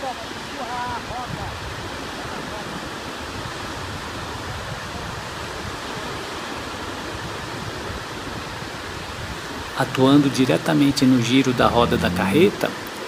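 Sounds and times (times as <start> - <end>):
surf breaking on beach: 0.0 - 13.0
wind: 0.0 - 13.0.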